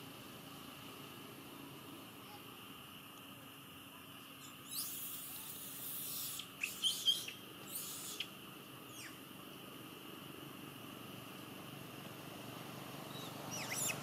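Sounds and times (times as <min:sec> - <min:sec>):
steady high hum: 0:00.0 - 0:14.0.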